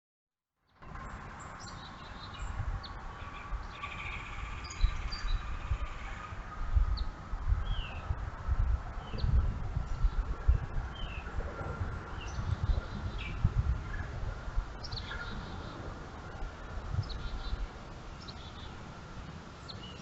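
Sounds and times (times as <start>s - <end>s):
songbirds chirping: 0.7s - 20.0s
wind on microphone rumbling: 0.9s - 20.0s.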